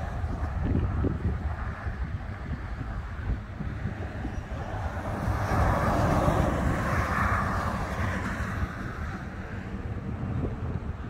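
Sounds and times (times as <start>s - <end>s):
vehicle passing rush: 0.0s - 11.0s
wind buffeting microphone: 0.0s - 11.0s.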